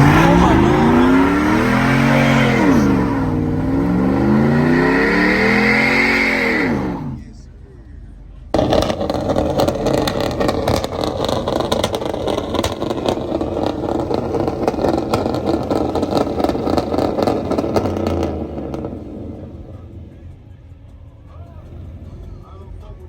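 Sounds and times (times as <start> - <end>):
car engine revving hard: 0.0 - 7.4, 8.6 - 20.1.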